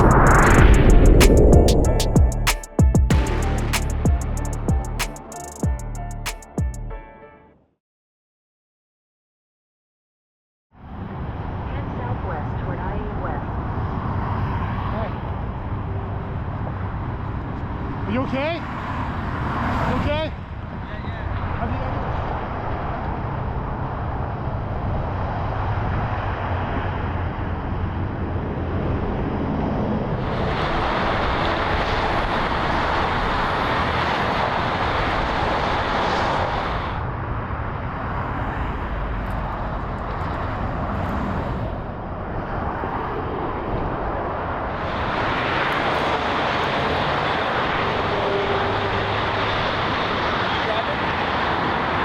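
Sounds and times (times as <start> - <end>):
freeway traffic rushing: 0.0 - 2.6, 10.8 - 52.0.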